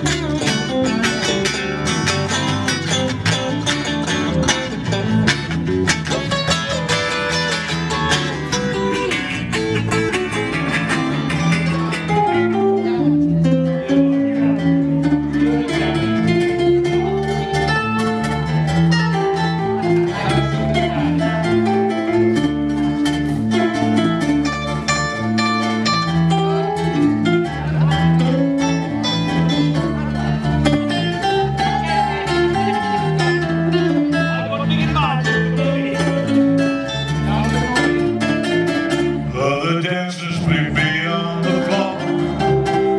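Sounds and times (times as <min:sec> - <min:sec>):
bass line: 0:00.0 - 0:42.9
guitar melody: 0:00.0 - 0:42.9.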